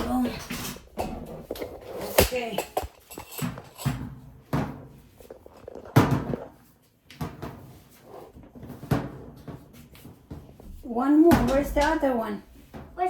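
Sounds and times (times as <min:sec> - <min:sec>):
household objects knocking and thudding: 0:00.0 - 0:07.8, 0:08.4 - 0:13.0.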